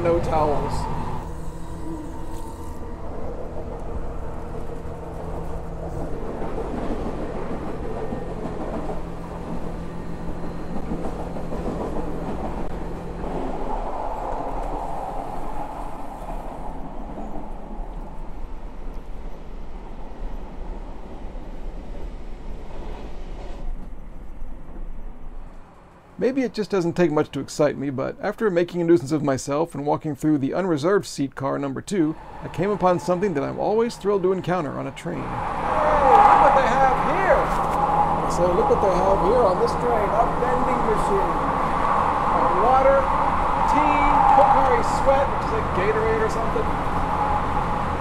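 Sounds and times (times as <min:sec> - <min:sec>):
diesel train running hum: 0:00.0 - 0:27.8, 0:32.0 - 0:48.0.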